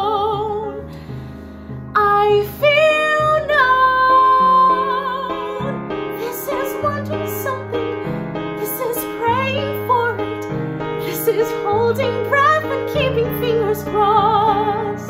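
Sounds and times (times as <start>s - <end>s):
woman singing a ballad: 0.0s - 1.0s, 1.9s - 15.0s
piano accompaniment: 0.0s - 15.0s.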